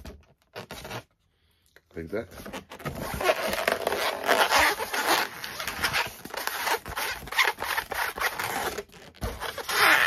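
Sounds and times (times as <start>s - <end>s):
balloons squeaking and rubbing: 0.0s - 1.2s, 2.2s - 10.0s.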